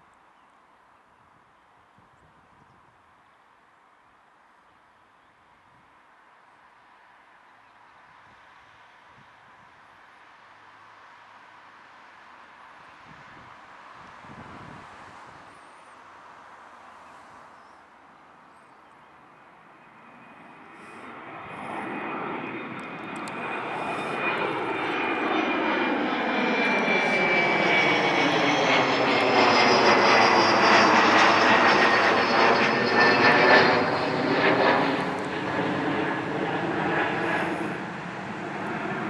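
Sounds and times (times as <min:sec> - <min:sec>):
jet engines at takeoff: 0:05.8 - 0:39.0.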